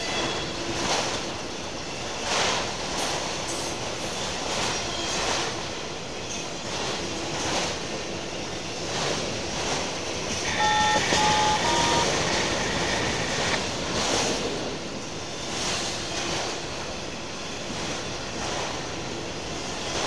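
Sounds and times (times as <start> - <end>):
train wheels rushing on rails: 0.0 - 20.0.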